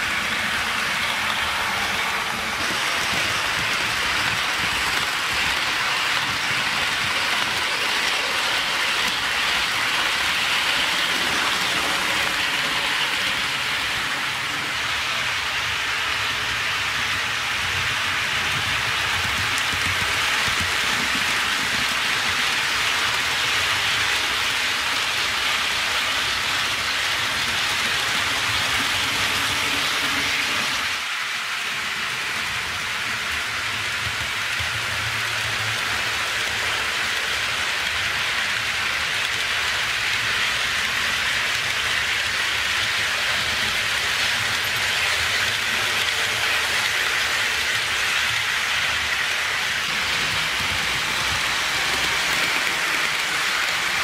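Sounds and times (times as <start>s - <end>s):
model train wheels rolling hiss: 0.0s - 54.0s.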